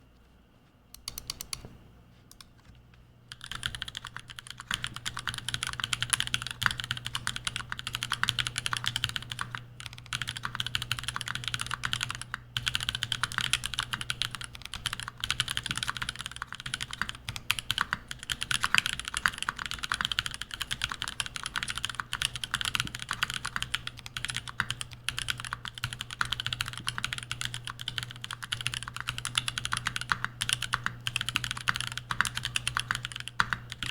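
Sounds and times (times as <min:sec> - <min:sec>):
typing on mechanical keyboard: 0:03.3 - 0:33.9.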